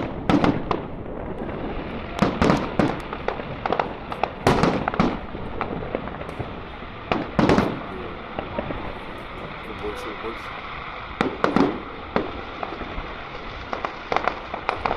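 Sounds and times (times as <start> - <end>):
fireworks bangs with crackle: 0.0 - 14.9.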